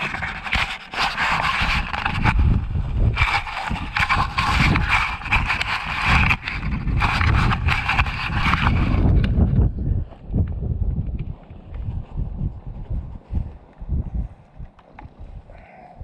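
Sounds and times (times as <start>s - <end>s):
microphone rustling contact noise: 0.0s - 15.4s.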